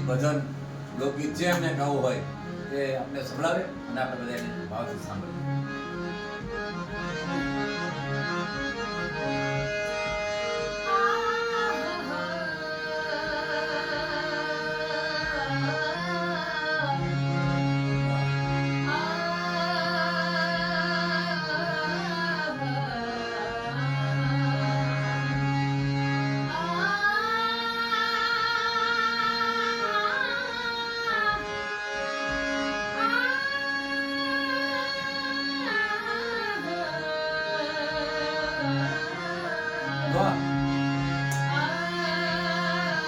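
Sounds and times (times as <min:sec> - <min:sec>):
instrumental accompaniment low notes: 0:00.0 - 0:43.0
woman singing devotional song: 0:05.3 - 0:43.0.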